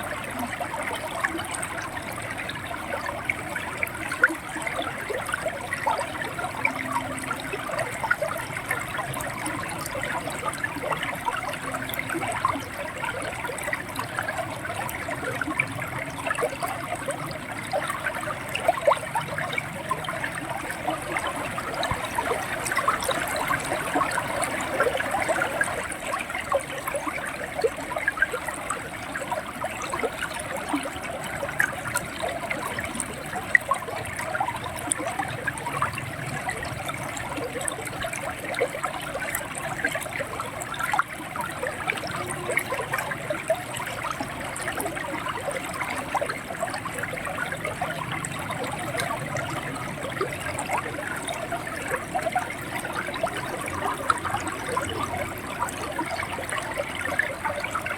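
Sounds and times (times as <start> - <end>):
river water gurgling over stones: 0.0 - 57.9.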